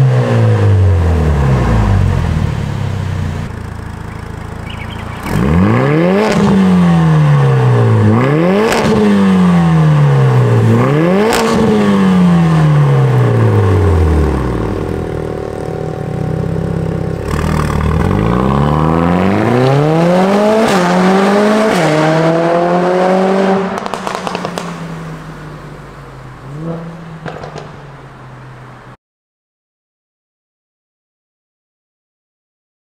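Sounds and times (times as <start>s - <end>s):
car engine free revs: 0.0s - 28.8s
car accelerating away: 0.0s - 28.9s.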